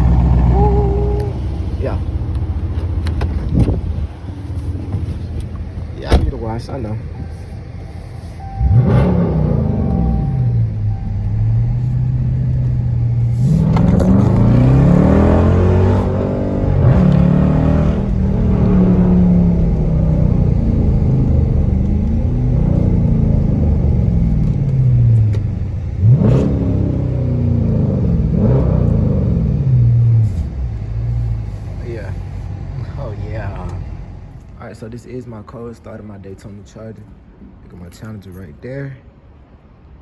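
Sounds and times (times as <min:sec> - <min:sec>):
car engine idling and revving: 0:00.0 - 0:37.8.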